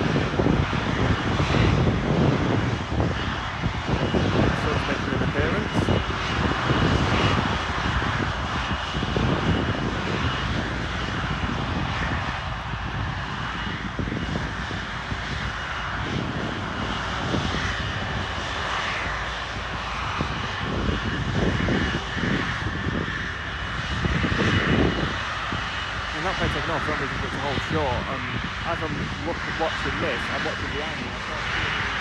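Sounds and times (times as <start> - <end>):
jet engines running: 0.0 - 32.0
wind buffeting microphone: 0.0 - 32.0.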